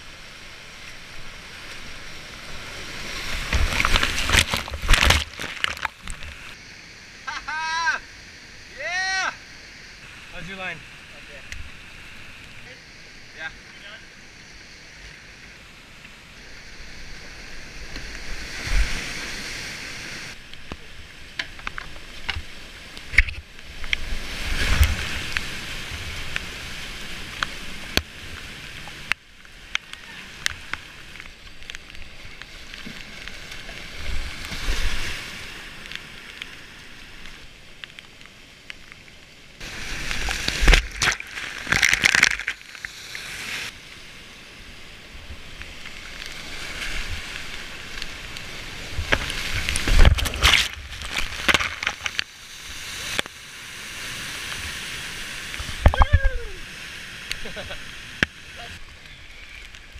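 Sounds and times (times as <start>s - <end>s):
whitewater rushing and splashing: 0.0s - 59.9s.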